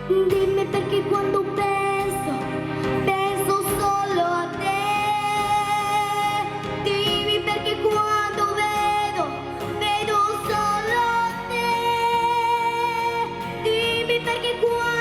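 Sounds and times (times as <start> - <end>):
pop backing music: 0.0 - 15.0.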